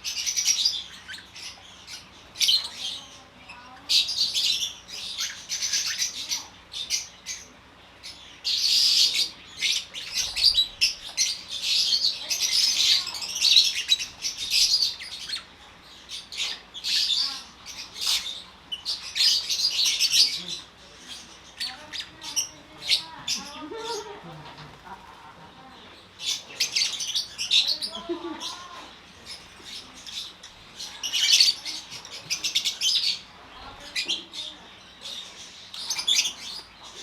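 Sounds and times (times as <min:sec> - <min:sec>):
flock of birds chirping: 0:00.0 - 0:37.0.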